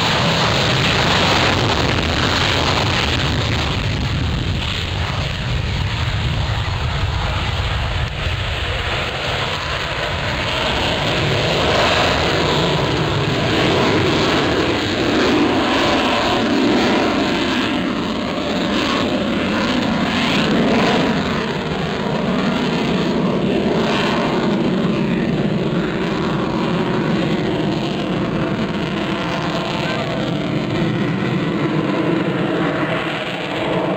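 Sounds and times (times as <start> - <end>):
jet engine roar: 0.0 - 33.9.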